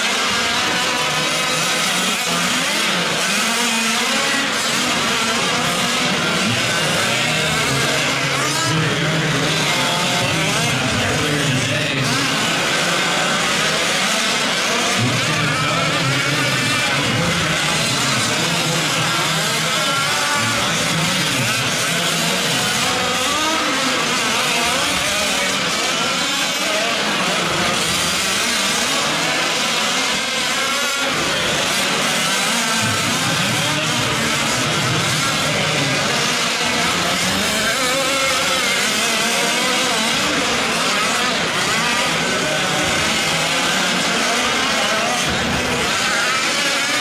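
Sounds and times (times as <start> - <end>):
rc truck engines revving: 0.0 - 47.0.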